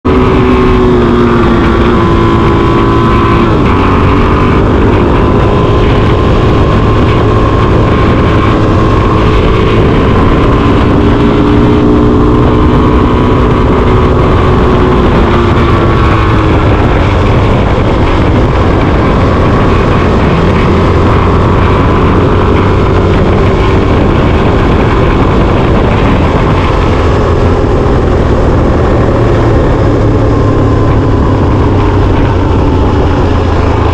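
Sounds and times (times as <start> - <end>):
motorcycle engine revving: 0.0 - 33.9
steady rushing noise: 0.0 - 33.9.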